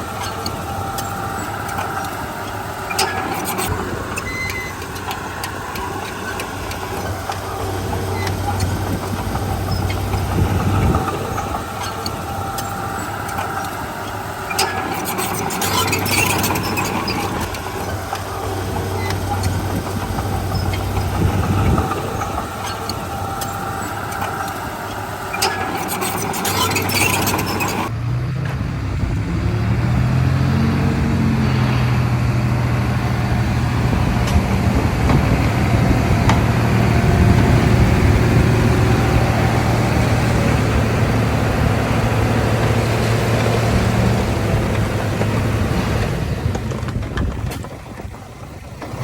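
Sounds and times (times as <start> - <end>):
diesel machinery engine hum: 0.0 - 49.0
machinery clanking: 0.0 - 49.0.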